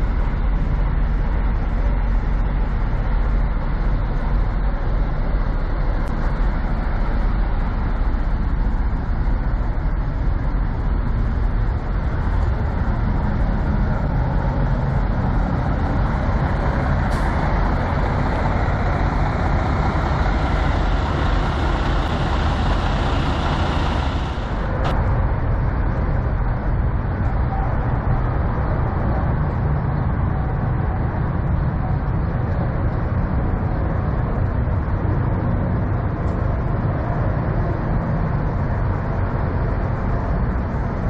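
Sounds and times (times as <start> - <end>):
diesel truck engines idling: 0.0 - 41.0.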